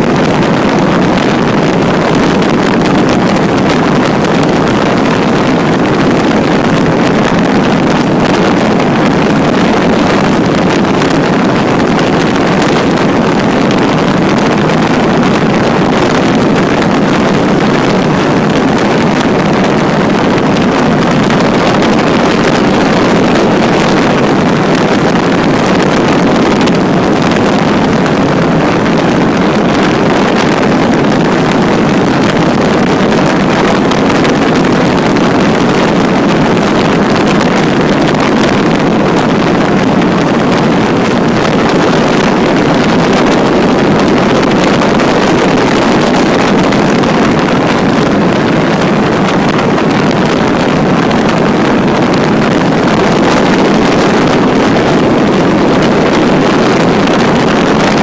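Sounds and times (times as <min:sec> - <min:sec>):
propeller engine running: 0:00.0 - 0:58.0
wind rushing: 0:00.0 - 0:58.0.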